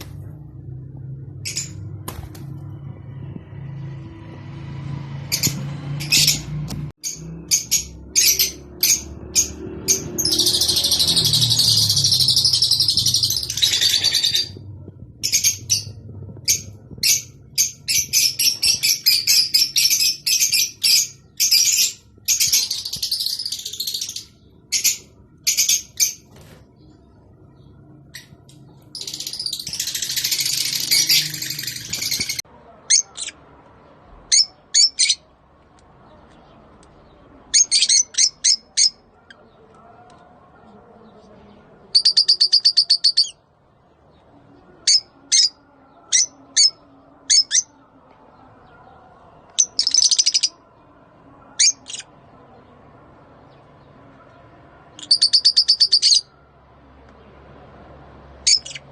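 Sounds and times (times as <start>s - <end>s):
lovebirds chirping: 5.2s - 57.6s, 58.2s - 58.9s.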